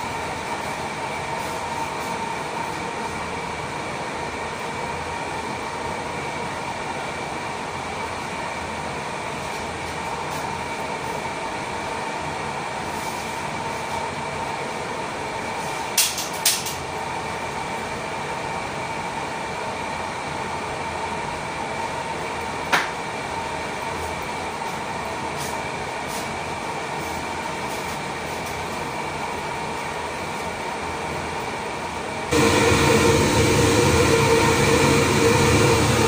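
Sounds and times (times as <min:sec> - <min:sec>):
kitchen ventilation fan hum: 0:00.0 - 0:36.0.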